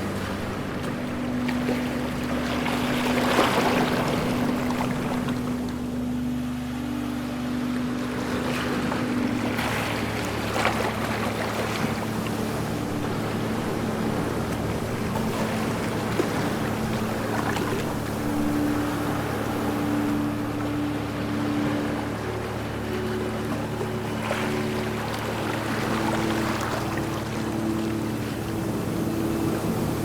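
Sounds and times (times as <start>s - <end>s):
ocean waves washing: 0.0s - 30.0s
steady low hum: 0.0s - 30.0s.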